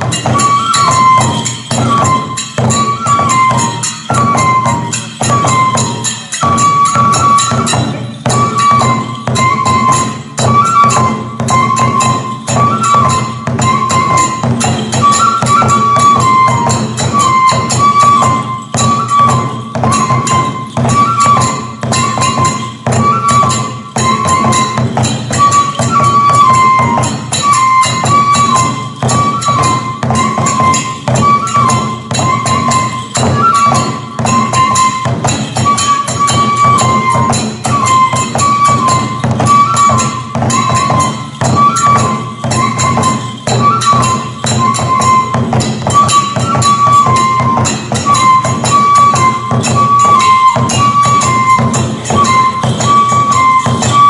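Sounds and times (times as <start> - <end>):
fast drum beats: 0.0 - 54.0
small hand cymbals jangling: 0.0 - 54.0
bamboo flute phrase: 0.1 - 54.0.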